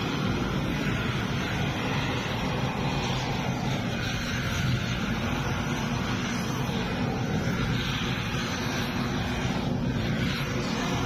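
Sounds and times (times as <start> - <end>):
noisy hiss: 0.0 - 11.0.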